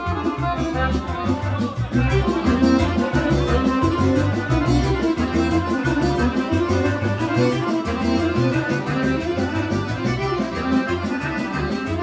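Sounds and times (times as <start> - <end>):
folk orchestra dance tune: 0.0 - 12.0
violin playing: 0.0 - 12.0.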